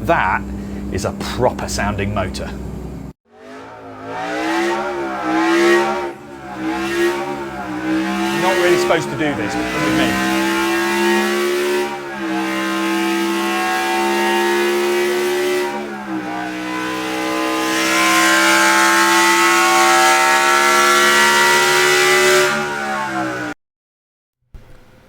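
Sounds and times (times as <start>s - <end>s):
car engine revving hard: 3.3s - 23.6s.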